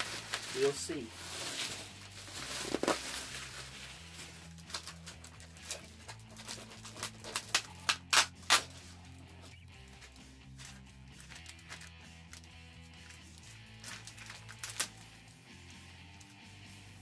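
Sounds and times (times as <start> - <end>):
paper and plastic packaging crinkling: 0.0 - 8.8, 9.9 - 15.2.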